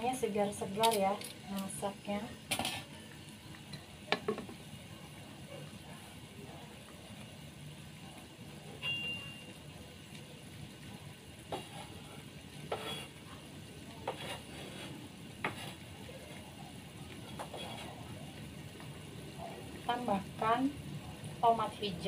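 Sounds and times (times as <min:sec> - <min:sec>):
broth boiling: 0:00.0 - 0:22.0.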